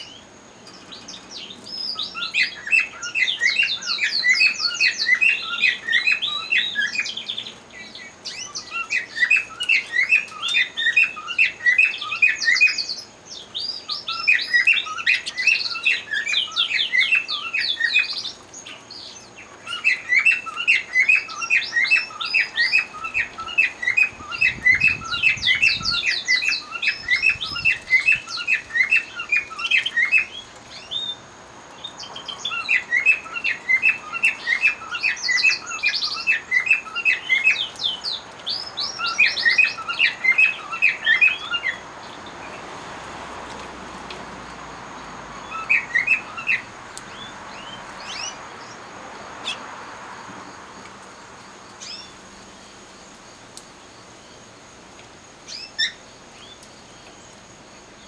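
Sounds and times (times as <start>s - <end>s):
canary singing trills: 0.0s - 42.7s, 44.9s - 49.7s, 51.8s - 52.2s, 55.4s - 57.4s.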